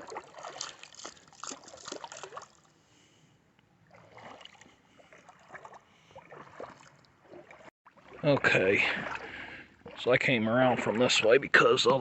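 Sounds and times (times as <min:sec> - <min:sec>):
footsteps splashing in water: 0:00.0 - 0:02.7, 0:03.8 - 0:12.0.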